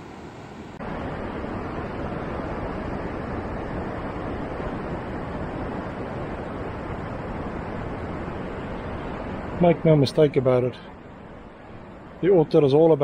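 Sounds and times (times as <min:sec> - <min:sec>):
ocean surf rushing: 0:00.0 - 0:13.0.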